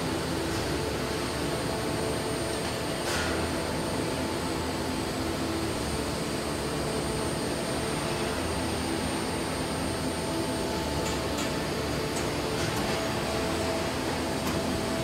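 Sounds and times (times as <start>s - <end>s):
factory machinery drone: 0.0s - 15.0s.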